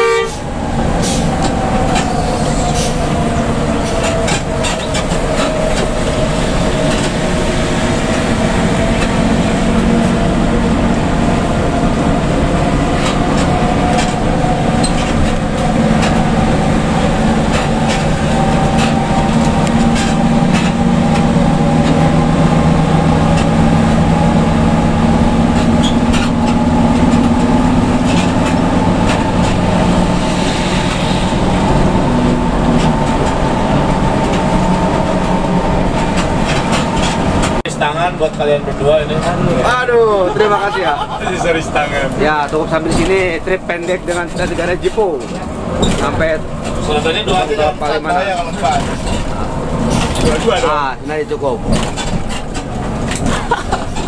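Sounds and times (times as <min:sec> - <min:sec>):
bus engine running: 0:00.0 - 0:54.0
road noise: 0:00.0 - 0:54.0.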